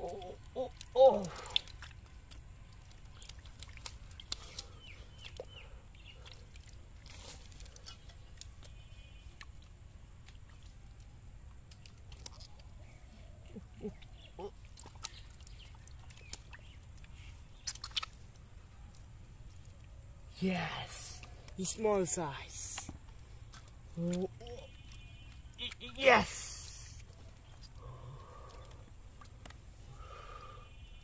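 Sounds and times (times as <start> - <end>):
small water splashes: 0.0 - 20.1, 21.1 - 31.0
wet mud squelches: 0.0 - 31.0.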